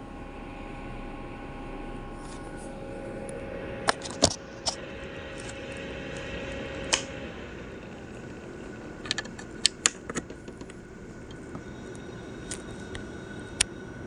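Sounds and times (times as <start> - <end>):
laptop fan rushing and whining: 0.0 - 14.0.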